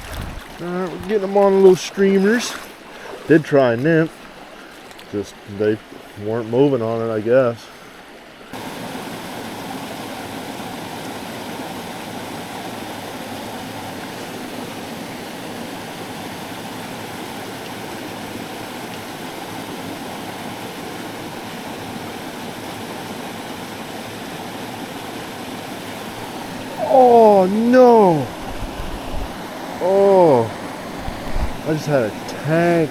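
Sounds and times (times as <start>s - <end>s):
stream rushing: 0.0s - 32.9s.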